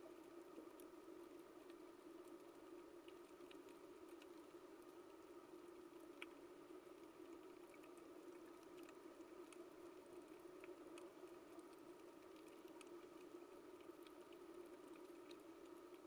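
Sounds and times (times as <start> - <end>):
faint clicks and snaps: 0.0 - 16.0.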